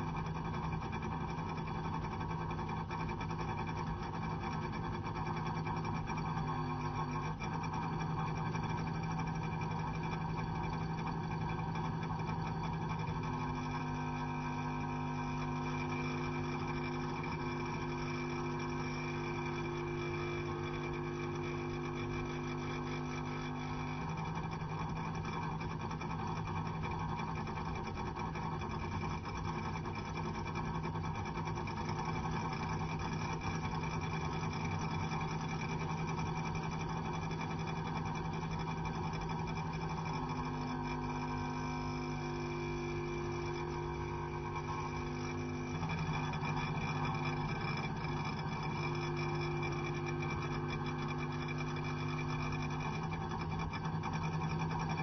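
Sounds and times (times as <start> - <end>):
electric meter humming: 0.0 - 55.0.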